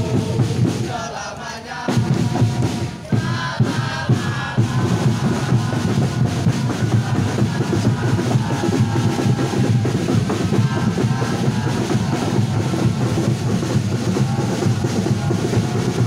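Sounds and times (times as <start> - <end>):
crowd singing a chant: 0.0 - 16.0
drums beating: 0.0 - 16.0.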